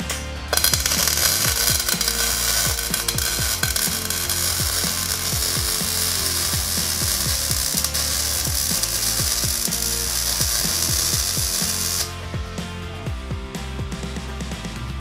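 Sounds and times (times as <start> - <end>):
welder arc crackling: 0.0 - 12.2
background music: 0.0 - 15.0.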